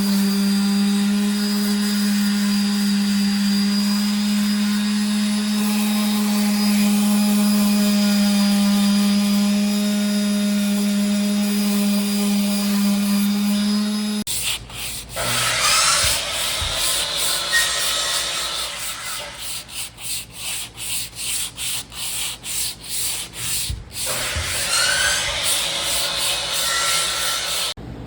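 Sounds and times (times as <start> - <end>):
sanding fiberglass: 0.0 - 27.8.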